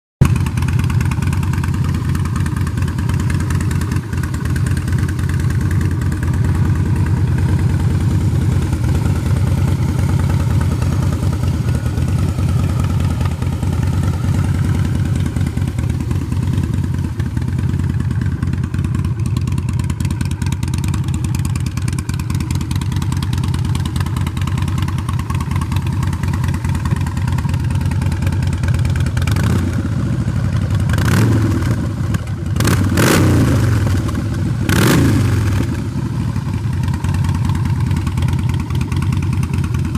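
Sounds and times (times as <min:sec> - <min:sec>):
motorcycle engine idling: 0:00.2 - 0:39.9.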